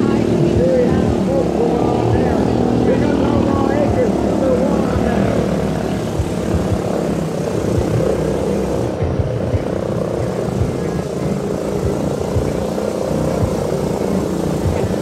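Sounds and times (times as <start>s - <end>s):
low bumps: 0.0s - 15.0s
small motors humming: 0.0s - 15.0s.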